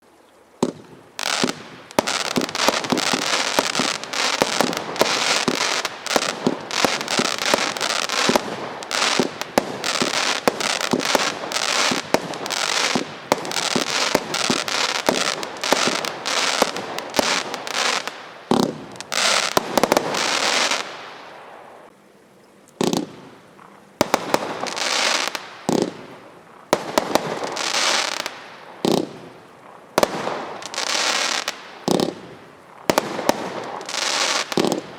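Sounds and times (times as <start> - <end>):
fireworks bangs and crackle: 0.6 - 21.9, 22.8 - 34.9.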